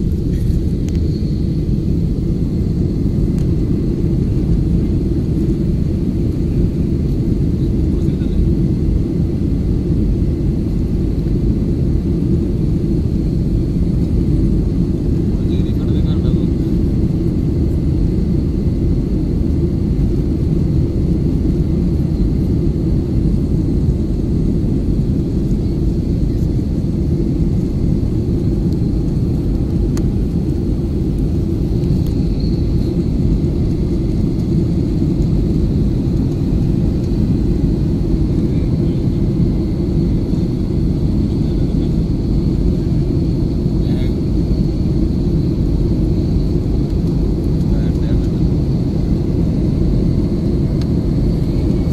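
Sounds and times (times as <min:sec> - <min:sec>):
faint high whine: 0:00.0 - 0:51.9
jet airliner cabin drone: 0:00.0 - 0:51.9.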